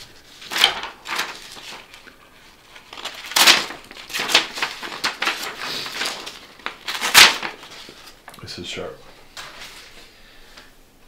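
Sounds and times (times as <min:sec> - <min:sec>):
paper rustling: 0:00.0 - 0:08.3, 0:09.3 - 0:10.1.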